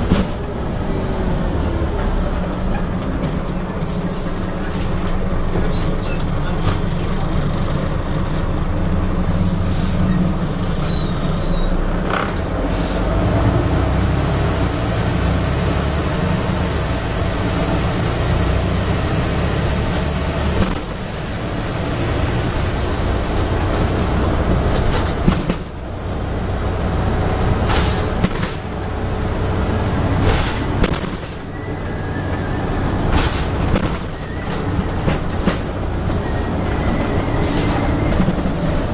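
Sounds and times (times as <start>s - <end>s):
bus body rattling: 0.0s - 13.2s, 14.3s - 38.9s
bus diesel engine droning: 0.0s - 38.9s.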